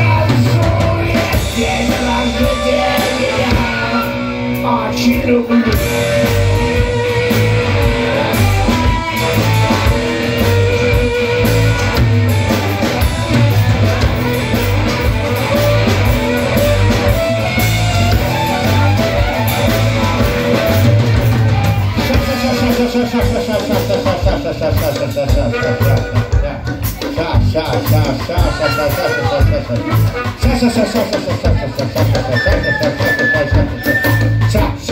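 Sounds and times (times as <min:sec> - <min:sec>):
bass guitar: 0:00.0 - 0:34.9
drum kit: 0:00.0 - 0:34.9
electric guitars: 0:00.0 - 0:34.9.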